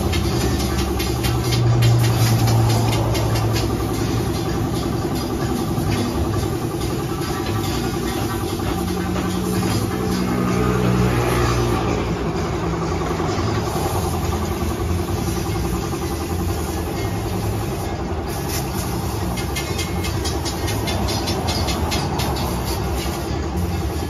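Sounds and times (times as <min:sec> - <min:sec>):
paint spray gun hissing: 0:00.0 - 0:11.9, 0:12.9 - 0:24.0
air compressor motor running: 0:00.0 - 0:24.0.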